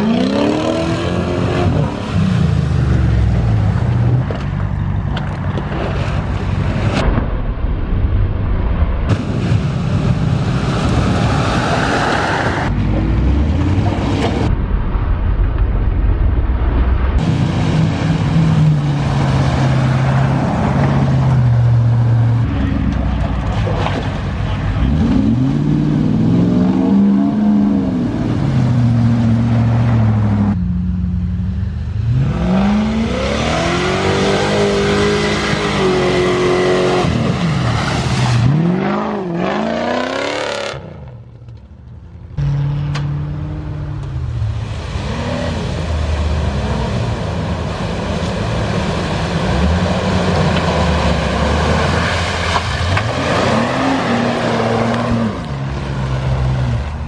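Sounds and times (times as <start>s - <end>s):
off-road engines revving: 0.0s - 7.1s, 9.1s - 14.5s, 17.2s - 41.6s, 42.2s - 57.0s.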